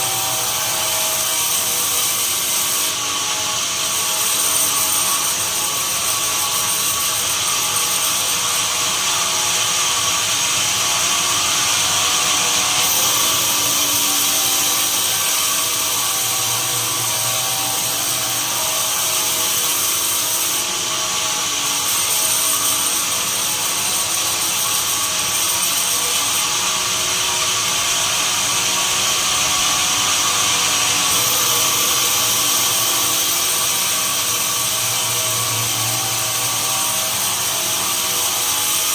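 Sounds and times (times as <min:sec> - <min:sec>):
sawmill machinery sawing wood: 0:00.0 - 0:38.9.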